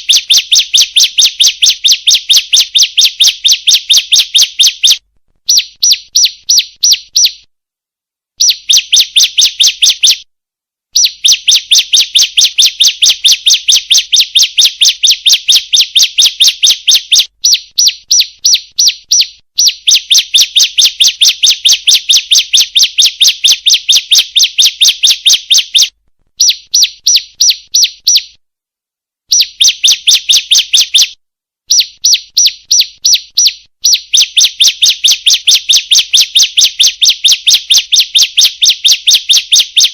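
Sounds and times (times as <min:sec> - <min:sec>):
bird sharp high chirps: 0:00.0 - 0:07.5, 0:08.4 - 0:10.3, 0:11.0 - 0:28.4, 0:29.3 - 0:39.9.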